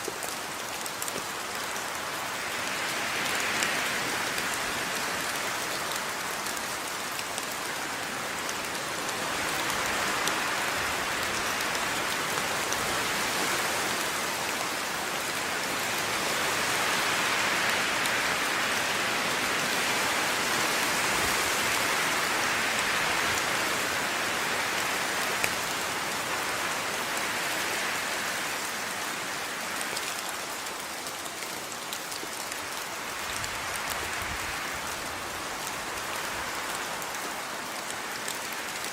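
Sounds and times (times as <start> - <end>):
steady rain pattering: 0.0 - 38.9.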